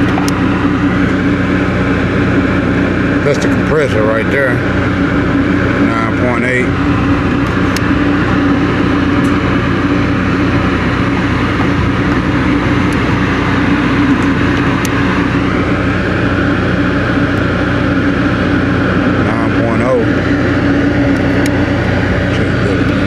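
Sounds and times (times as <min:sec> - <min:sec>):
compressor humming: 0:00.0 - 0:23.0
condenser fan rushing: 0:00.0 - 0:23.0.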